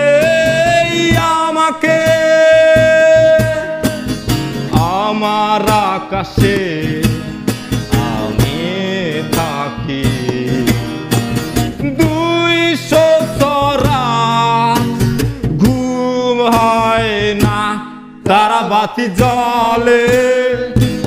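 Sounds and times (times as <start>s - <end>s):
men singing: 0.0s - 11.1s, 11.7s - 21.0s
strummed acoustic guitar: 0.0s - 21.0s.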